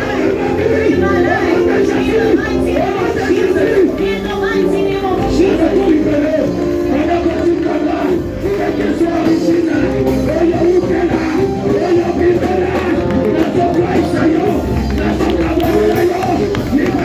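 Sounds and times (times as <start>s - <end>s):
band playing worship music: 0.0s - 17.0s
people singing: 0.0s - 17.0s.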